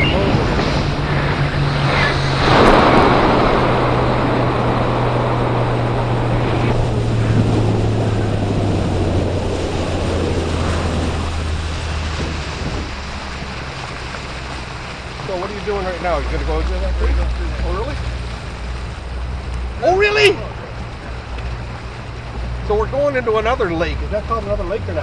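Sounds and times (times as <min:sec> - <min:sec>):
outboard motor running: 0:00.0 - 0:25.0
water rushing past: 0:00.0 - 0:25.0
wind buffeting microphone: 0:00.0 - 0:25.0.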